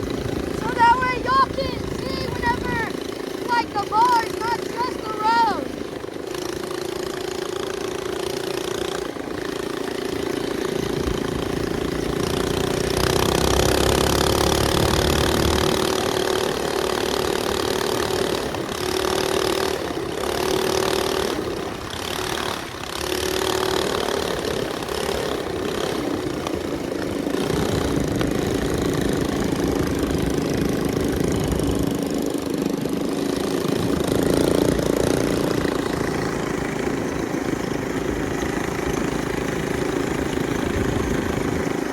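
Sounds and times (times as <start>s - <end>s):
small engine revving: 0.0s - 41.9s.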